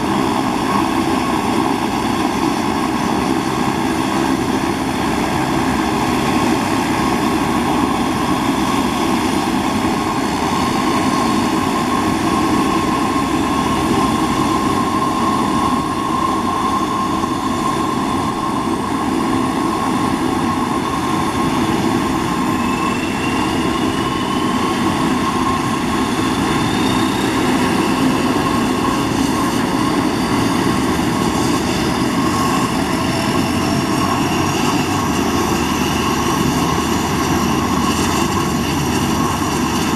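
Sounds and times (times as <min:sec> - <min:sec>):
engine spooling up whine: 0:00.0 - 0:39.9
propeller drone: 0:00.0 - 0:39.9
turbine whine: 0:00.0 - 0:39.9.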